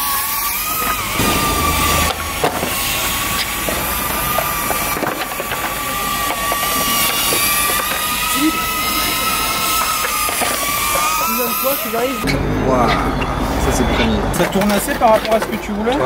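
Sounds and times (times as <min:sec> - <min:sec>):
drone motors whining: 0:00.0 - 0:14.2.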